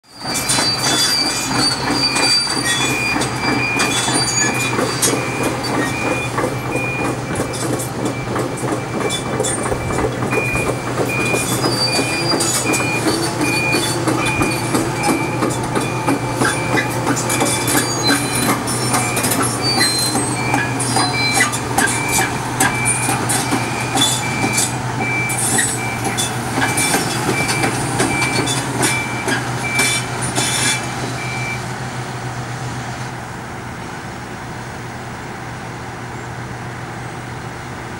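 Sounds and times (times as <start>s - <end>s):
diesel engine drone: 0.0s - 37.9s
high-pitched alarm beeping: 0.1s - 31.6s
steel tracks clattering: 0.1s - 36.3s.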